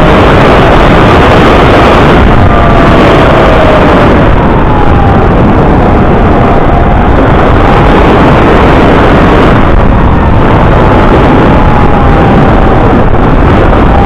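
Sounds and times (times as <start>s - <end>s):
propeller and wind rush: 0.0s - 14.0s.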